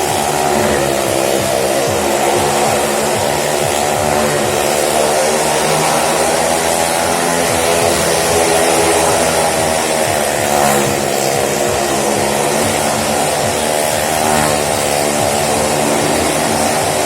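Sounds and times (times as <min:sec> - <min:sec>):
motorcycle and car engines revving: 0:00.0 - 0:17.0.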